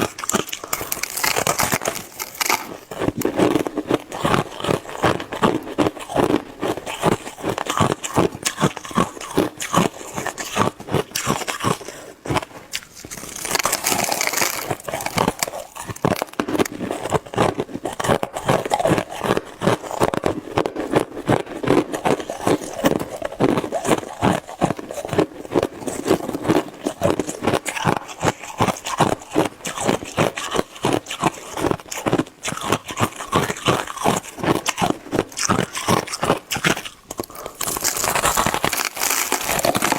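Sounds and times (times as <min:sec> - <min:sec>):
chewing crunchy shaved ice: 0:00.0 - 0:39.9.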